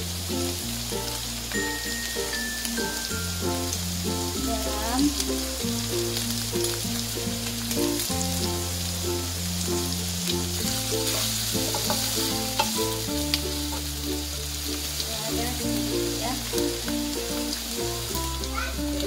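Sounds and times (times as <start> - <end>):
background music with bass: 0.0 - 19.0
food sizzling in wok: 0.0 - 19.0.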